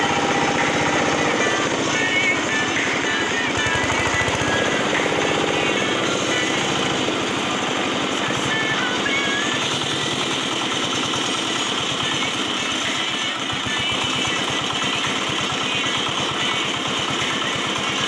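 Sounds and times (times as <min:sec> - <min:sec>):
concrete cutter engine idling: 0:00.0 - 0:18.0.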